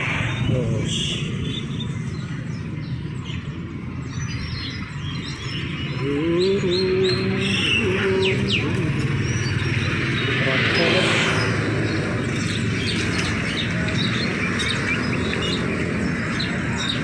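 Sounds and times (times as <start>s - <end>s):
low droning tone: 0.0s - 17.0s
songbirds chirping: 0.0s - 17.0s
traffic rumble: 0.0s - 17.0s.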